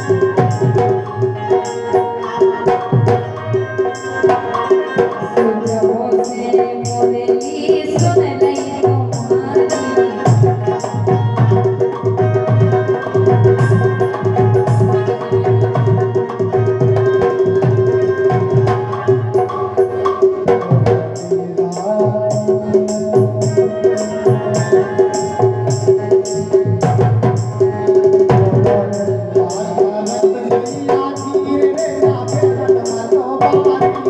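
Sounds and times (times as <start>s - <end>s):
driving drum rhythm: 0.0s - 34.0s.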